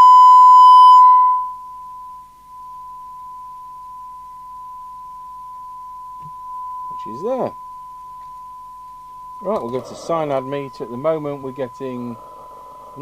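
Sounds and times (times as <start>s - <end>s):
steady test tone: 0.0s - 13.0s.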